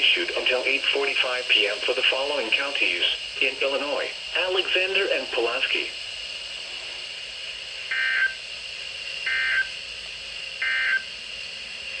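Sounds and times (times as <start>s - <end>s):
faint high whine: 0.0s - 12.0s
steady hiss: 0.0s - 12.0s.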